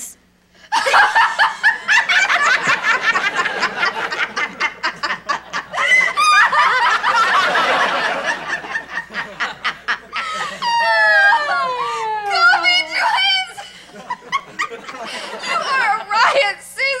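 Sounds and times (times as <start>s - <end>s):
women laughing: 0.7s - 16.5s.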